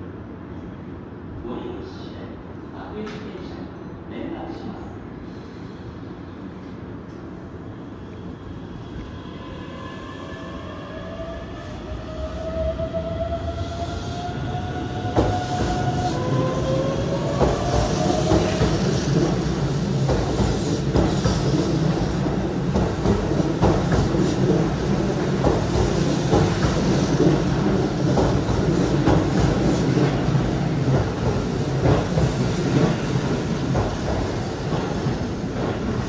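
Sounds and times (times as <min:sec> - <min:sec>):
train rumbling: 0:04.9 - 0:36.0.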